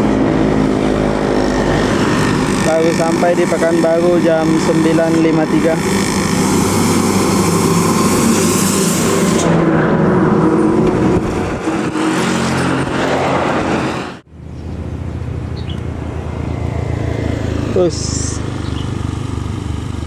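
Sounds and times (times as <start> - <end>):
bus driving past: 0.0 - 20.0
engine hum: 0.0 - 20.0.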